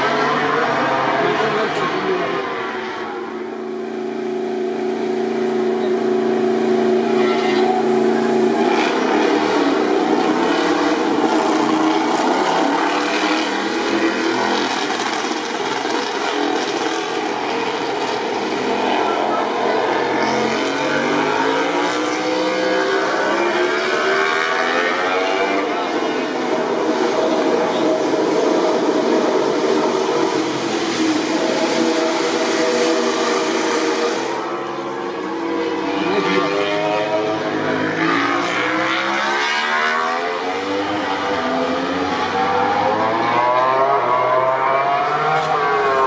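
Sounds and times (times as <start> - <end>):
racing motorcycle engines: 0.0 - 46.0.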